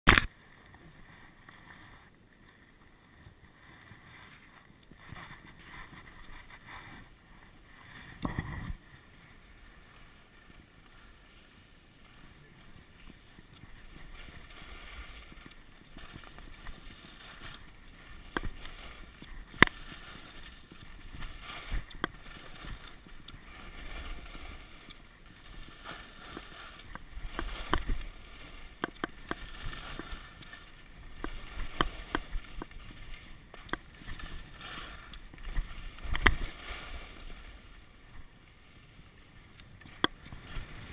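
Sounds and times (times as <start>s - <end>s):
skis scraping over snow: 0.2s - 40.9s.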